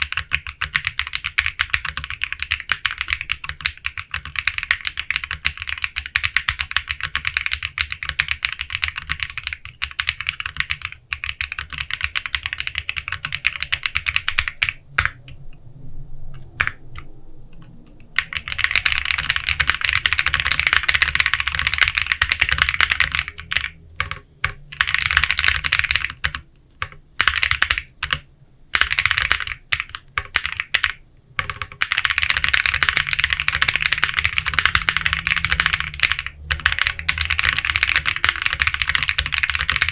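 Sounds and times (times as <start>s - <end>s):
mechanical keyboard typing: 0.0s - 15.4s, 16.3s - 39.9s.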